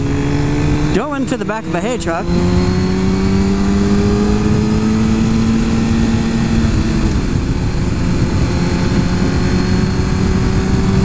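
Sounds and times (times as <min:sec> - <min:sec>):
motorcycle engine cruising: 0:00.0 - 0:11.0
wind noise rushing: 0:00.0 - 0:11.0.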